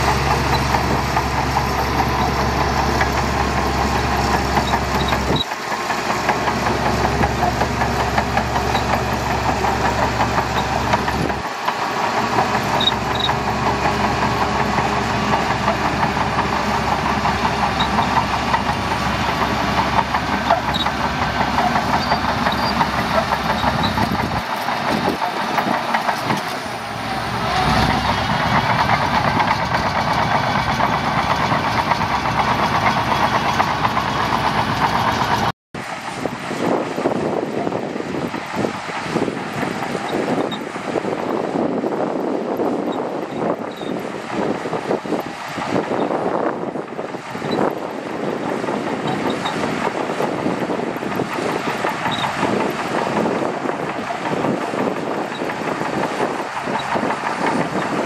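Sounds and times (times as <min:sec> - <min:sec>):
bulldozer diesel engine clattering: 0:00.0 - 0:58.0.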